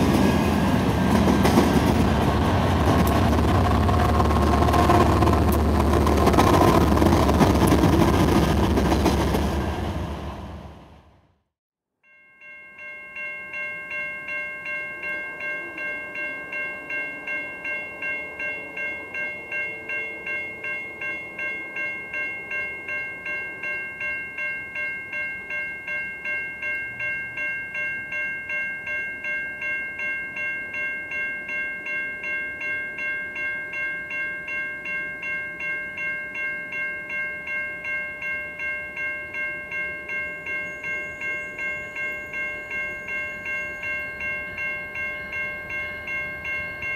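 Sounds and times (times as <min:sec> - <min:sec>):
railroad crossing bell ringing: 0:00.0 - 0:08.8, 0:12.0 - 0:46.9.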